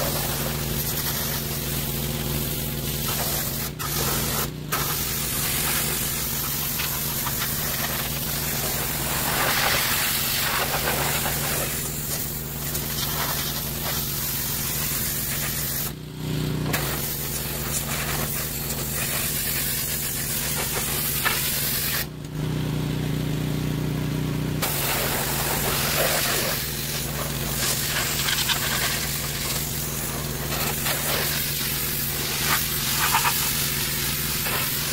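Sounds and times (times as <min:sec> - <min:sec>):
washer motor humming: 0:00.0 - 0:21.2, 0:22.1 - 0:34.9
pressure washer spray hissing: 0:00.0 - 0:22.2, 0:24.6 - 0:34.9.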